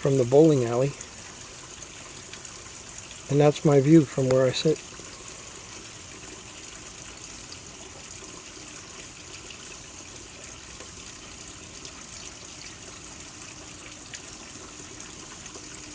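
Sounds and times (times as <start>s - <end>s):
water running down small waterfall: 0.0s - 15.9s.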